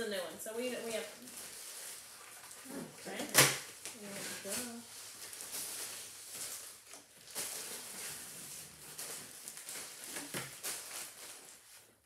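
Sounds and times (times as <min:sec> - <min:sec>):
plastic bags rustling and crinkling: 0:00.0 - 0:12.0.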